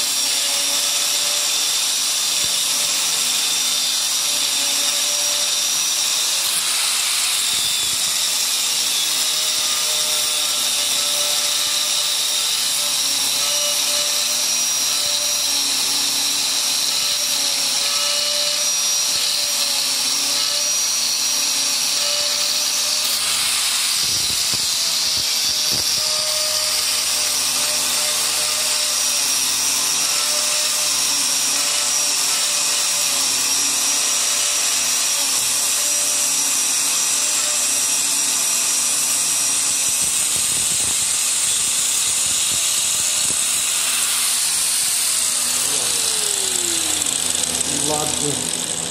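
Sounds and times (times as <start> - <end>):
angle grinder cutting metal: 0.0 - 48.9.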